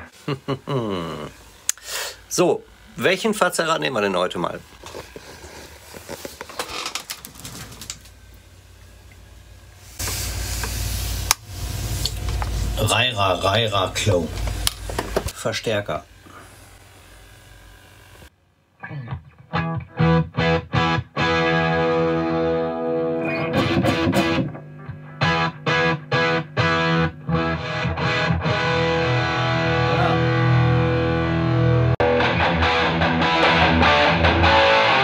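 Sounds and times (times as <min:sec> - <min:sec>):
distorted electric guitar chords: 0:00.0 - 0:06.3, 0:09.4 - 0:35.0.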